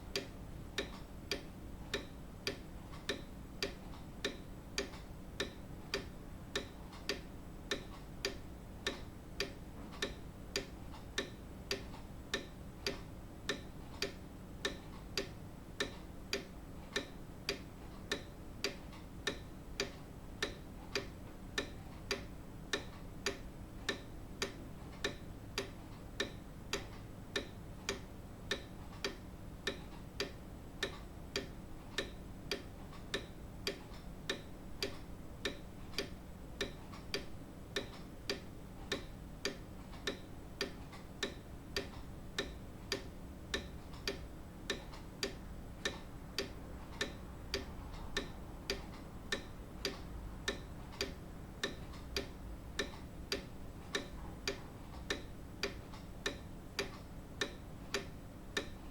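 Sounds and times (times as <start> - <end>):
clock ticking: 0.0 - 58.9.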